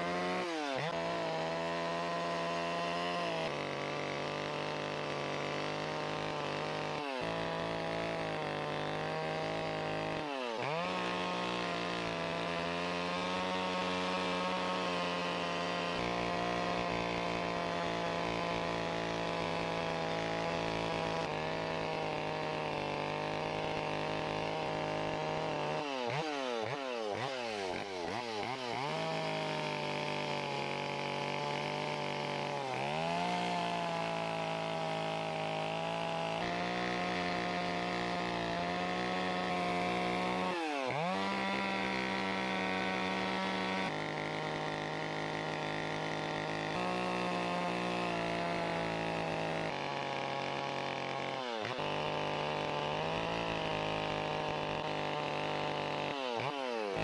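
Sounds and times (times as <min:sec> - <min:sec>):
chainsaw carving wood: 0:00.0 - 0:57.0.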